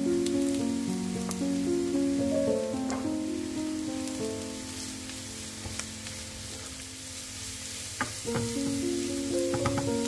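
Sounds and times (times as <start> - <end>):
background music: 0.0 - 10.0
vegetables sizzling in a frying pan: 0.0 - 10.0.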